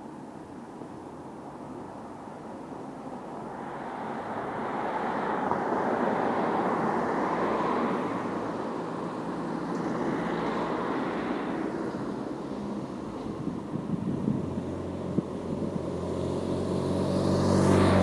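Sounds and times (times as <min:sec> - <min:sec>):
cars passing: 0:03.5 - 0:18.0.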